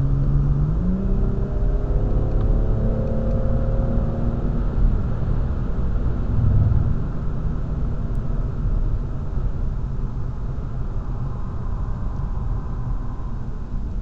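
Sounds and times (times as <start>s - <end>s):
road and tyre noise: 0.0s - 14.0s.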